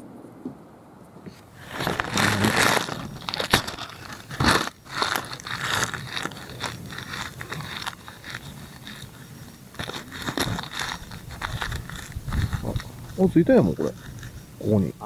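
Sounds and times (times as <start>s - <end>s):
kindling fire crackling: 0.9s - 15.0s
paper rustling: 1.3s - 14.5s.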